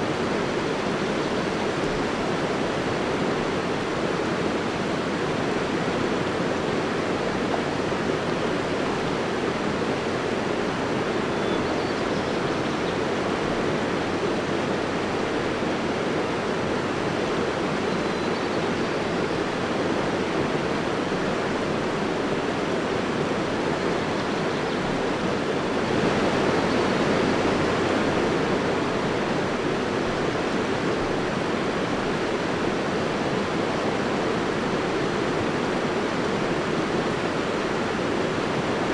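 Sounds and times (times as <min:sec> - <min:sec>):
water rushing: 0:00.0 - 0:11.3, 0:18.9 - 0:38.9.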